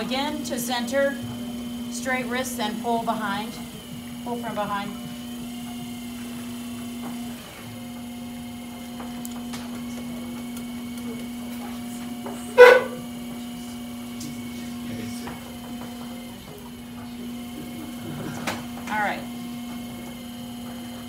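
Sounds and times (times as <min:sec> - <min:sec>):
potter's wheel motor humming: 0:00.0 - 0:21.0.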